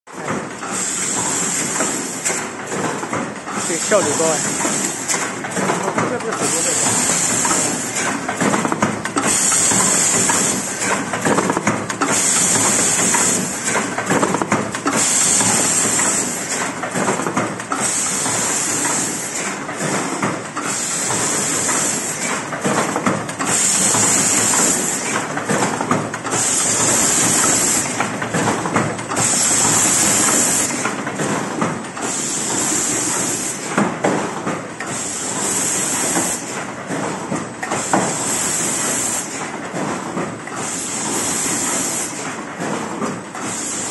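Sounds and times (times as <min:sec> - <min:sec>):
machinery clattering: 0:00.1 - 0:43.9.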